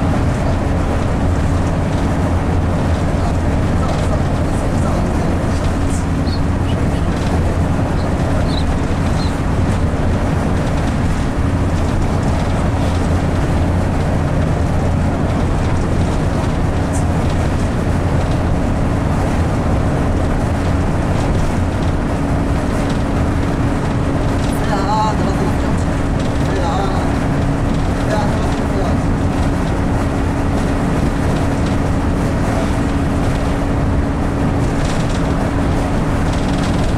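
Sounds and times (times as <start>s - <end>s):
bus engine drone and road noise: 0.0s - 36.9s
constant low hum: 0.0s - 36.9s.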